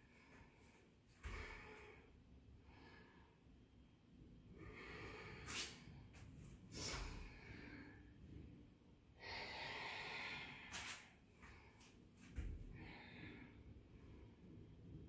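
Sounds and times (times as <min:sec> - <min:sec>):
woman breathing hard through nose: 0:00.0 - 0:03.5, 0:04.5 - 0:08.4, 0:09.2 - 0:14.4.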